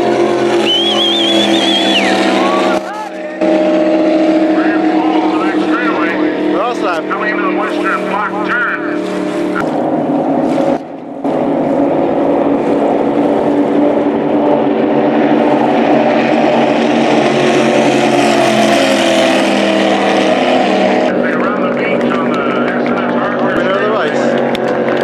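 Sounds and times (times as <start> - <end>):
racing boat engines droning: 0.0 - 25.0.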